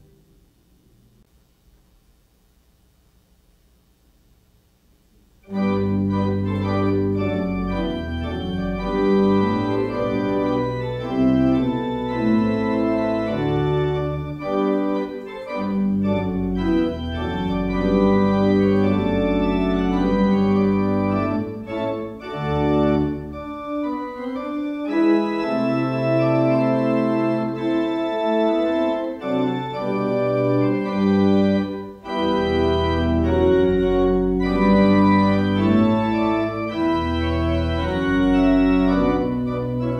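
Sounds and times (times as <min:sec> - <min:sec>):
organ chords: 0:04.9 - 0:39.9.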